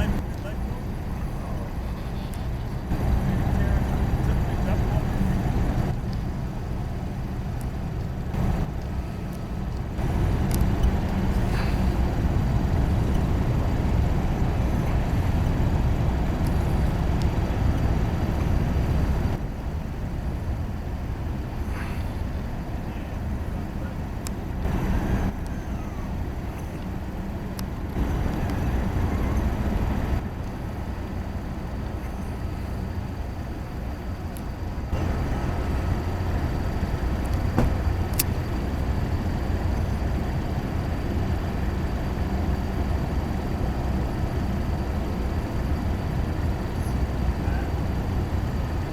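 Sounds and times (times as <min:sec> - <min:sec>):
ship engine rumble: 0:00.0 - 0:48.9.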